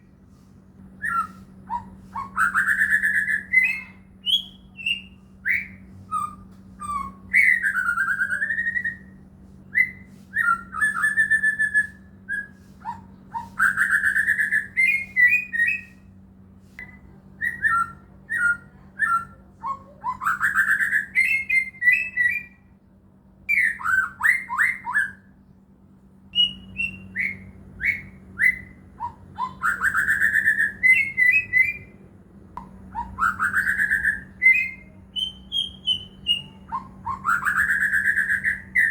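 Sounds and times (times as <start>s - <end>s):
faint low hum: 0.0s - 38.9s
bird singing whistled phrases: 1.0s - 16.1s, 16.8s - 22.7s, 23.5s - 25.4s, 26.3s - 31.9s, 32.9s - 38.9s.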